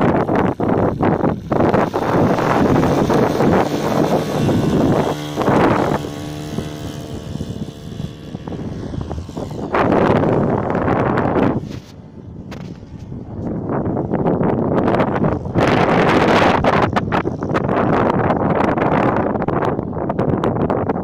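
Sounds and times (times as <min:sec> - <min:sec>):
engine drone: 0:00.0 - 0:19.7
wind buffeting microphone: 0:00.0 - 0:21.0.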